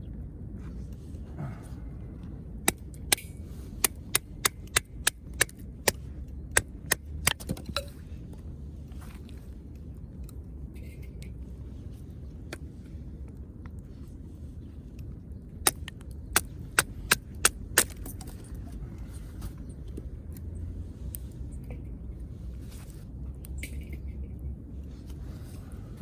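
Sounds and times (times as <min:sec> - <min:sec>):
campfire low rumble: 0:00.0 - 0:26.0.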